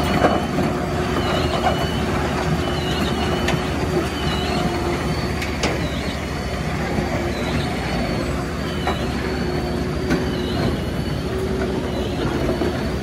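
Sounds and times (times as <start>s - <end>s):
crusher machinery drone and clatter: 0.0s - 13.0s.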